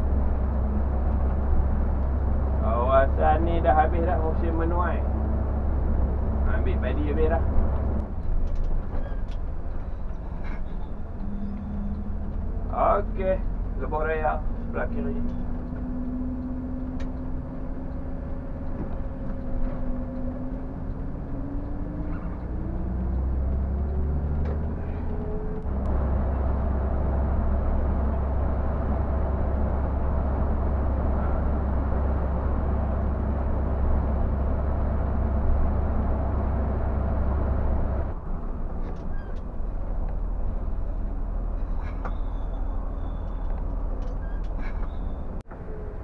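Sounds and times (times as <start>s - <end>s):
bus diesel engine accelerating: 0.0s - 46.0s
road noise: 0.0s - 46.0s.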